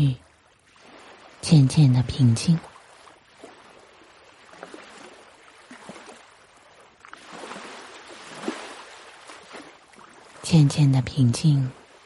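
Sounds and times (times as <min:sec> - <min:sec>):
ocean waves lapping: 0:00.0 - 0:12.0.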